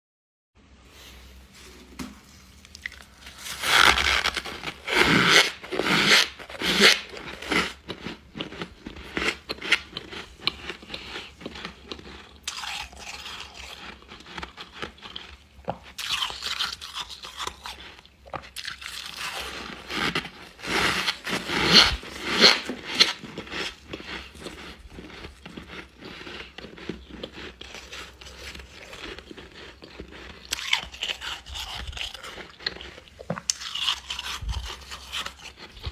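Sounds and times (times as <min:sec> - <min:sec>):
frost being chewed crunching: 0:01.9 - 0:35.9.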